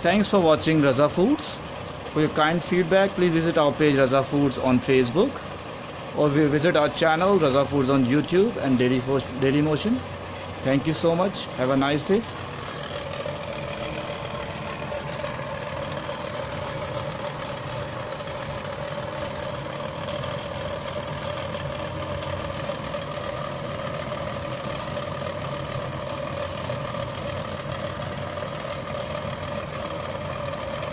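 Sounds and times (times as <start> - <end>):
steady mechanical hum: 0.0 - 30.9.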